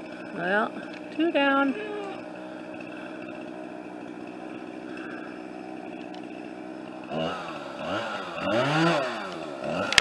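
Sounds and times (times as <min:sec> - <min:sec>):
chainsaw idling and revving: 0:00.0 - 0:10.0.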